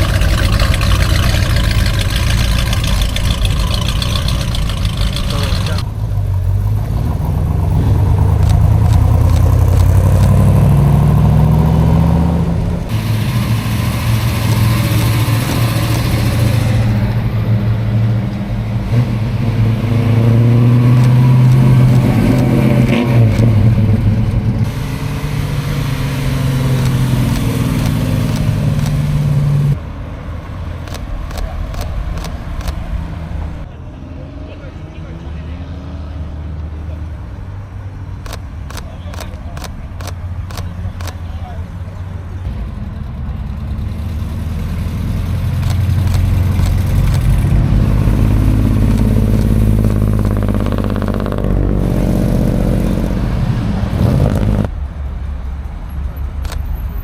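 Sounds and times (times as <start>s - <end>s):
car and truck engines accelerating: 0.0s - 57.0s.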